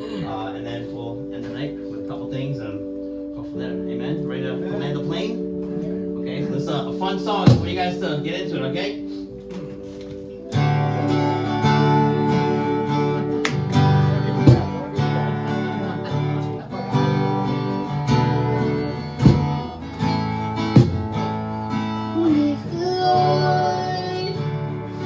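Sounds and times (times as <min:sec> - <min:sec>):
bass: 0:00.0 - 0:25.0
live band playing: 0:00.9 - 0:25.0
strummed acoustic guitar: 0:04.6 - 0:25.0.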